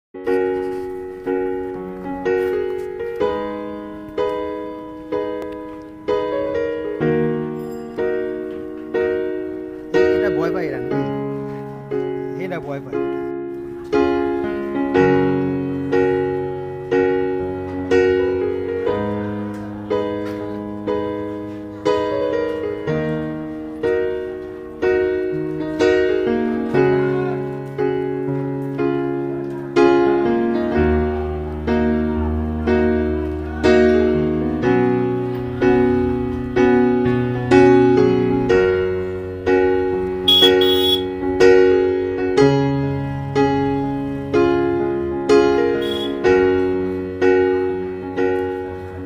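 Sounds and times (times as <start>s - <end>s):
piano music: 0.2s - 49.0s.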